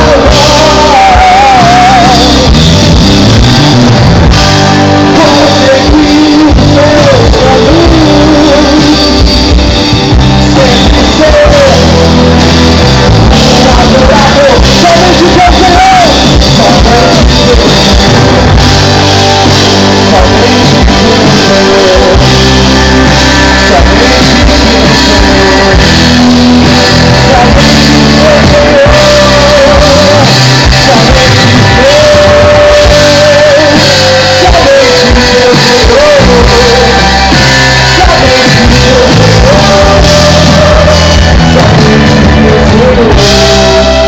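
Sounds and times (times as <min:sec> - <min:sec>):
live band playing worship song: 0:00.0 - 0:44.0
person singing long notes: 0:00.0 - 0:44.0.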